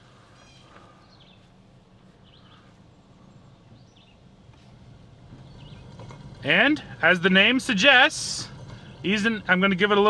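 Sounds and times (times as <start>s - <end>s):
songbirds chirping and trilling: 0.0s - 10.0s
steady low hum: 0.0s - 10.0s.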